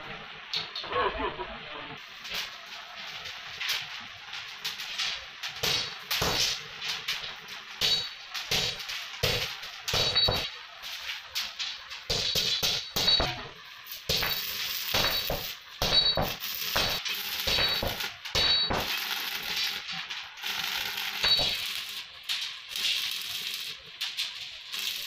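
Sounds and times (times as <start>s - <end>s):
arc welding crackling: 2.0s - 25.0s
steel strips clinking: 2.3s - 25.0s.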